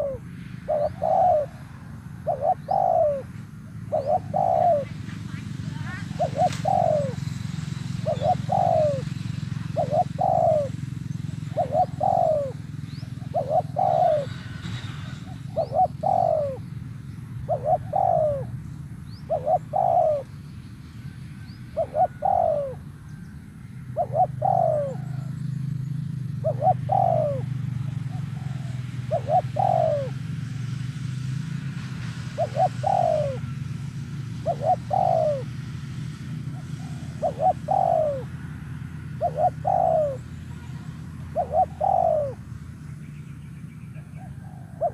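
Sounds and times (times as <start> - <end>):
dove cooing: 0.0 - 20.4, 21.4 - 23.2, 23.8 - 25.6, 26.3 - 30.4, 32.2 - 42.6, 43.9 - 44.9.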